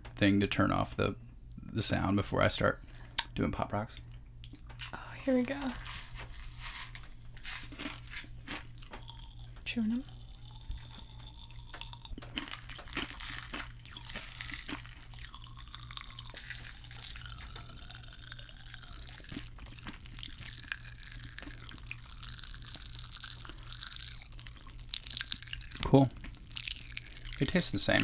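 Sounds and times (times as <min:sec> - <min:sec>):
low steady hum: 0:00.0 - 0:28.0
popping candy crackling in mouth: 0:04.4 - 0:28.0.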